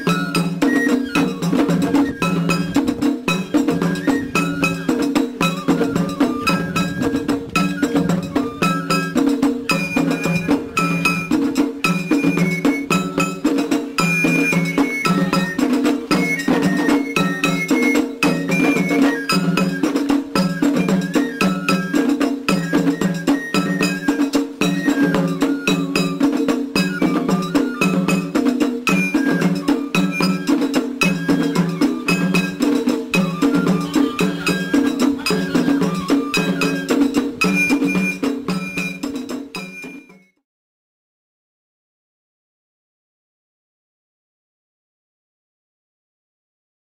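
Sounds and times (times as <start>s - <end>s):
high melody line: 0.0s - 40.3s
pulsing drums: 0.0s - 40.3s.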